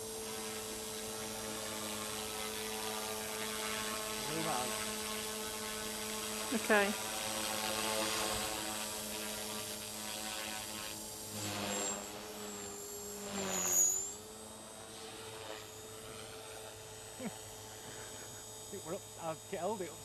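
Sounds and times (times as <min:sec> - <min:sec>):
rc helicopter rotor whine: 0:00.0 - 0:20.0.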